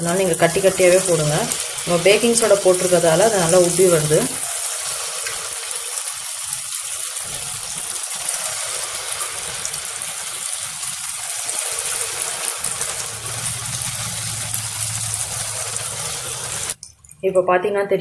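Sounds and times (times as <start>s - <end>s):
oil sizzling while deep-frying: 0.0s - 16.8s.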